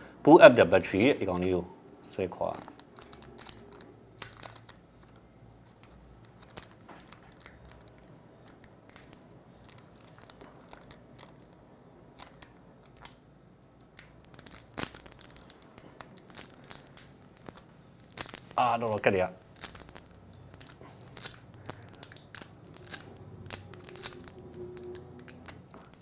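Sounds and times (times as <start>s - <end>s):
adhesive tab peeling crackles: 2.4s - 26.0s.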